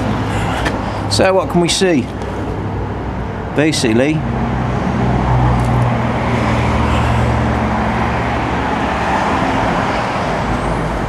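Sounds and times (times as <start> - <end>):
motor traffic rumble: 0.0 - 11.0.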